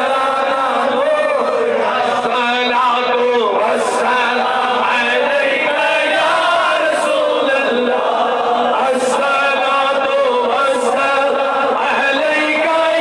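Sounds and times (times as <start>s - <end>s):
man chanting through a microphone: 0.0s - 13.0s.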